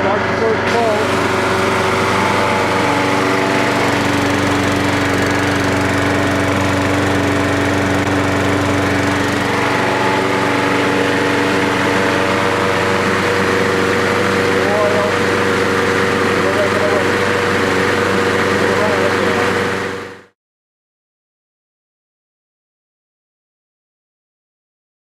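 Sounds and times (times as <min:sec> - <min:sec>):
lawn mower engine running: 0:00.0 - 0:20.4.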